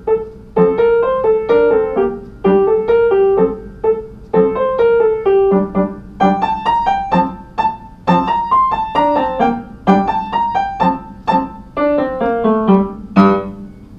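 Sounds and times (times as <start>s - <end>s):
piano melody: 0.0s - 13.9s.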